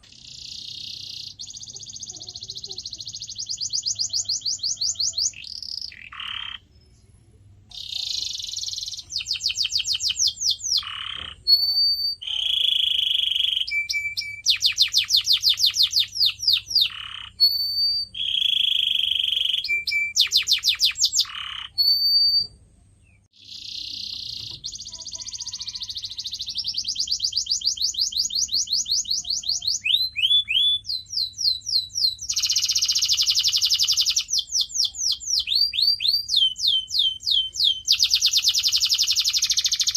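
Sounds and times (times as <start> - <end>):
canary singing: 0.0 - 7.1, 7.7 - 39.9.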